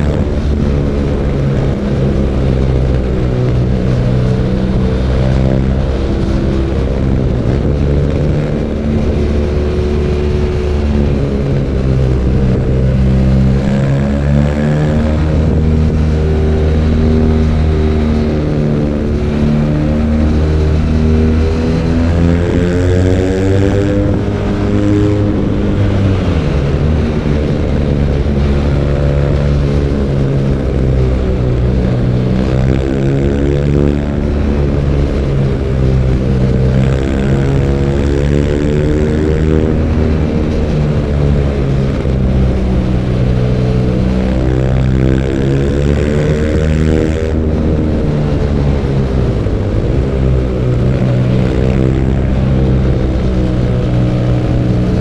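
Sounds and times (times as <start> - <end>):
motorcycle engine running: 0.0 - 55.0
rushing noise: 0.0 - 55.0.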